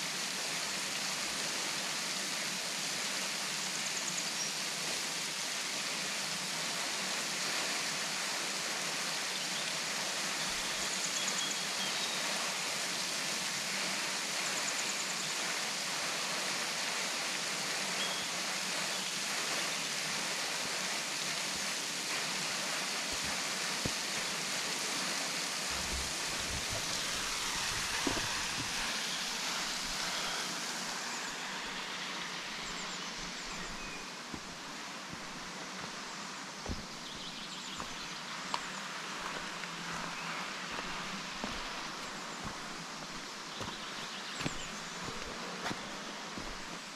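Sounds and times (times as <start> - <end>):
waterfall rushing: 4.7 - 46.9.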